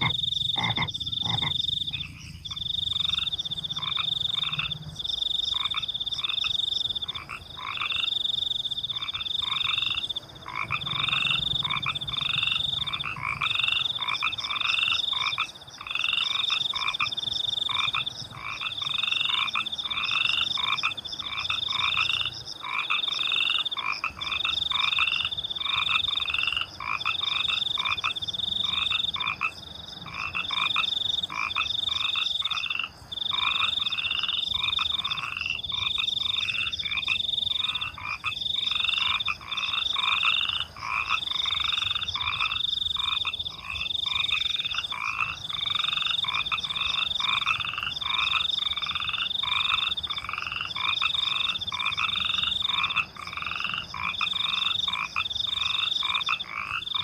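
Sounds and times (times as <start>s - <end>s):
crickets trilling: 0.0s - 57.0s
frogs croaking: 0.0s - 57.0s.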